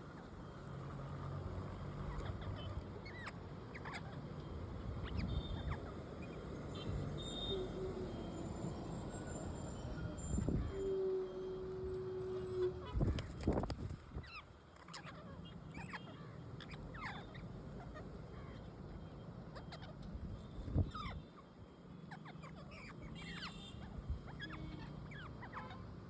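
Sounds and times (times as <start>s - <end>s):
parrots chirping and squawking: 2.0s - 13.6s, 14.2s - 25.9s.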